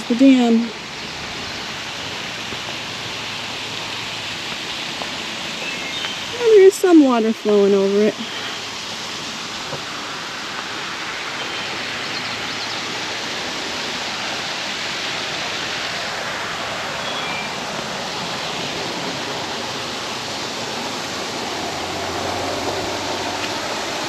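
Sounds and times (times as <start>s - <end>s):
water pouring over creek dam: 0.0s - 24.0s.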